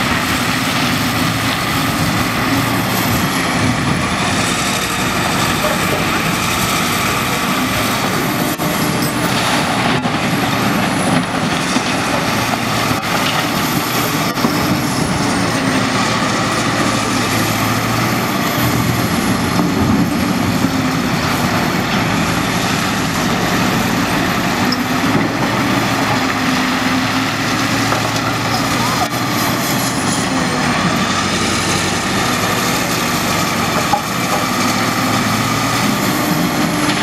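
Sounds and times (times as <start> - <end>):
diesel engines running under load: 0.0 - 37.0.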